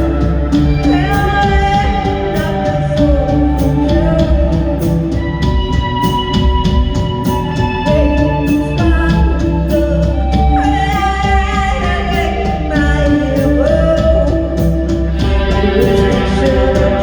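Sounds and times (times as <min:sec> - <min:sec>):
person singing long sliding notes: 0:00.0 - 0:05.9, 0:07.6 - 0:17.0
live band playing: 0:00.0 - 0:17.0.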